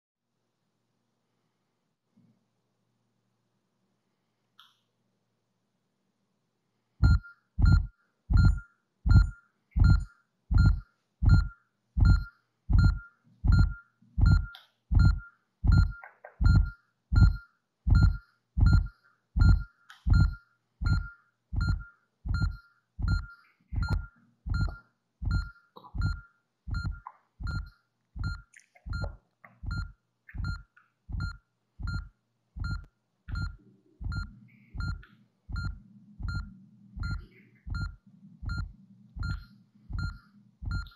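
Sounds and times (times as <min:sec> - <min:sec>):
deep heartbeat thump: 0:07.0 - 0:23.2, 0:23.8 - 0:27.6, 0:28.2 - 0:40.9
short beeps: 0:07.0 - 0:40.9.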